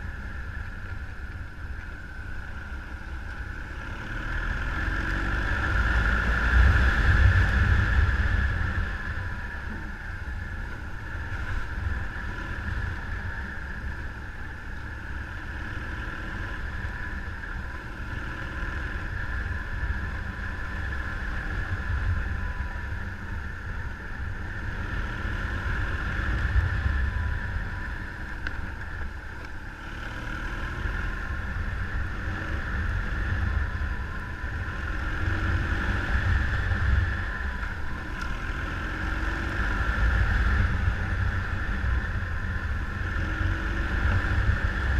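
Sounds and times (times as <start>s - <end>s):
vehicle engine running: 0.0s - 44.9s
wind rumble on microphone: 0.0s - 44.9s.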